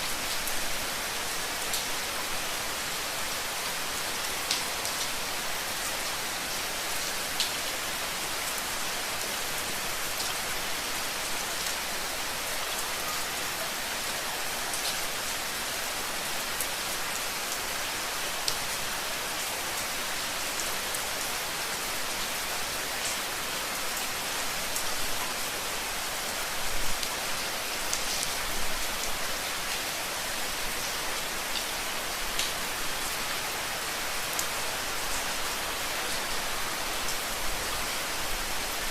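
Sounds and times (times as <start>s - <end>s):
steady rain hitting a surface: 0.0s - 38.9s.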